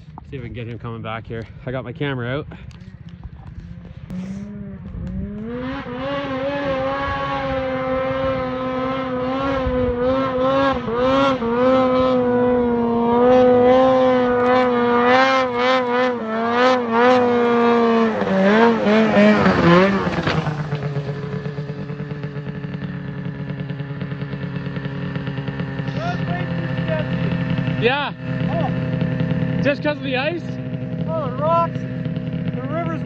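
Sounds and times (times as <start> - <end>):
snowmobile engine at high revs: 2.6 - 33.0.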